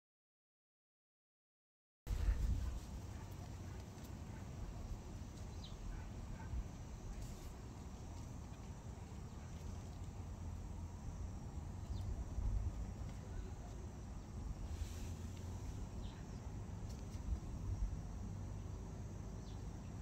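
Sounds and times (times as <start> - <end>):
steady low rumble: 2.1 - 20.0.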